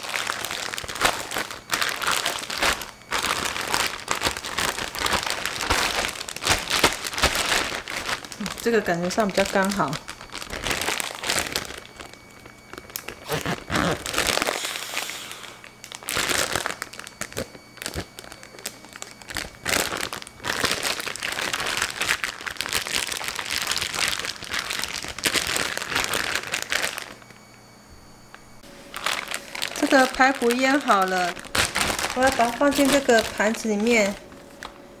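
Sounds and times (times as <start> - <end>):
plastic bag crinkling: 0.0 - 27.5, 28.4 - 34.8.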